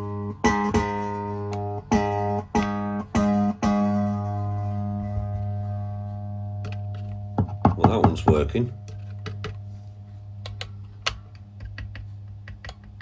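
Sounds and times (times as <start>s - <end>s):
electric guitar chords ringing: 0.0s - 10.5s.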